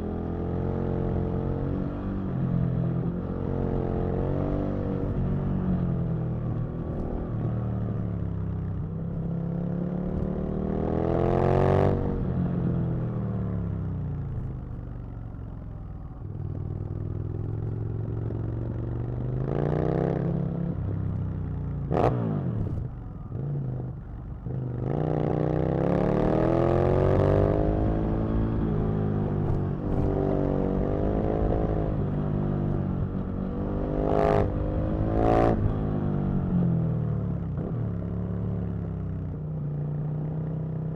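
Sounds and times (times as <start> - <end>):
motorcycle engine accelerating: 0.6 - 40.9.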